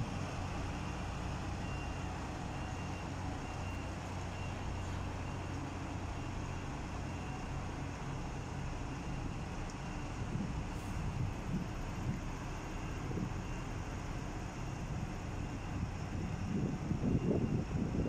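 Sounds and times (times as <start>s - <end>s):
diesel engine running: 0.0s - 18.0s
reversing alarm beeps: 0.5s - 18.0s.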